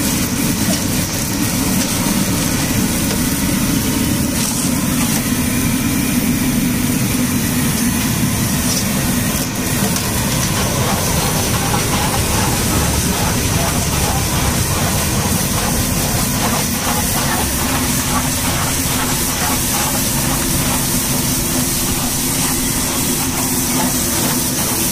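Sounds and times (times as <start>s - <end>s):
oil frying hiss: 0.0s - 24.9s.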